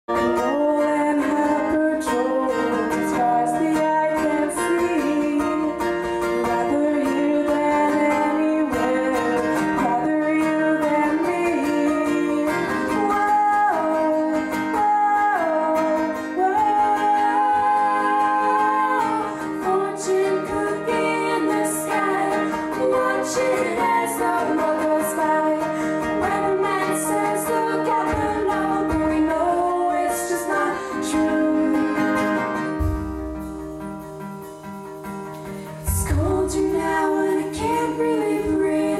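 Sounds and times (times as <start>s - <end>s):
guitar: 0.0s - 38.9s
pop song with sung vocals: 0.1s - 33.3s, 35.4s - 38.9s.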